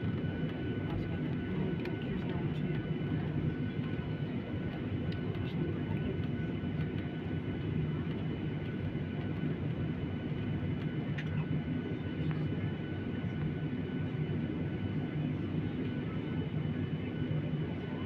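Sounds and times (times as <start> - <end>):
airliner engine and airflow rumble: 0.0 - 18.0.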